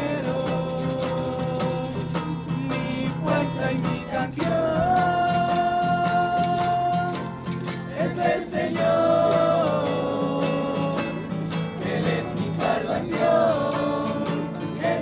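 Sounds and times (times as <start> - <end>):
shaker beat: 0.0 - 2.8, 3.7 - 15.0
group singing worship song: 0.0 - 15.0.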